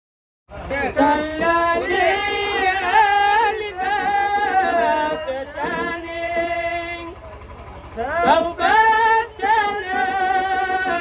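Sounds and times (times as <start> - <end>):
man singing ornamented melody: 1.0 - 7.1, 8.1 - 11.0
low hum: 1.0 - 11.0.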